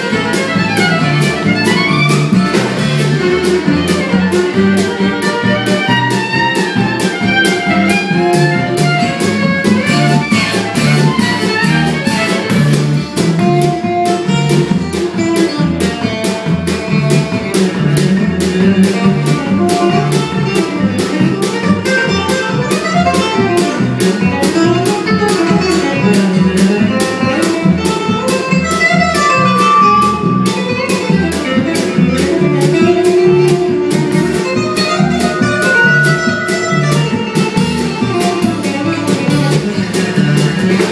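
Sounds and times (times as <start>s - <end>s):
acoustic string band playing: 0.0s - 40.9s.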